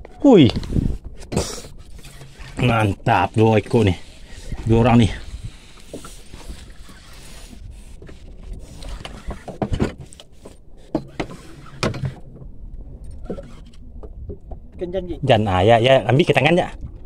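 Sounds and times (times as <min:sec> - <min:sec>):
knocks and clatter on boat: 0:00.0 - 0:17.0.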